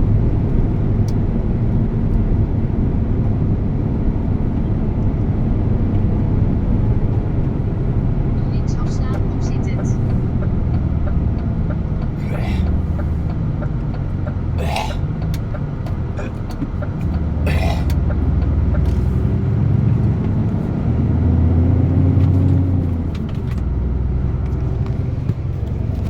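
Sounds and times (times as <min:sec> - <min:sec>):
truck diesel engine rumbling: 0:00.0 - 0:26.0.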